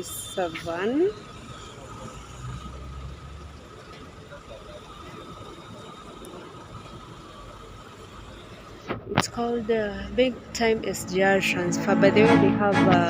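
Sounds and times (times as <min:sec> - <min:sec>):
vehicle and road noise: 0:00.0 - 0:13.0.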